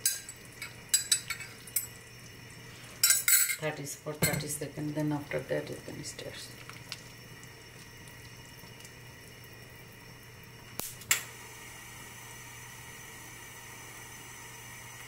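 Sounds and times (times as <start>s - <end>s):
soup simmering with bubbling hiss: 0.0s - 3.2s, 3.8s - 15.0s.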